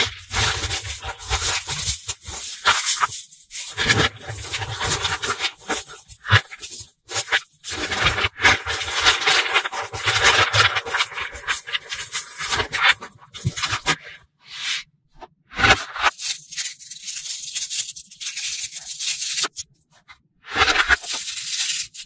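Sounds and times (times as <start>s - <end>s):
magnetic balls clicking and scraping: 0.2s - 14.1s, 16.0s - 22.0s.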